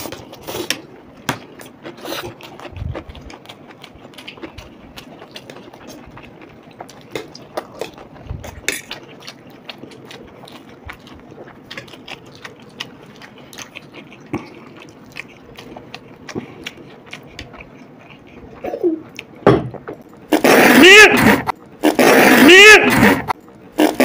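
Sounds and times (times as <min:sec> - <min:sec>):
people chewing: 0:00.0 - 0:24.0.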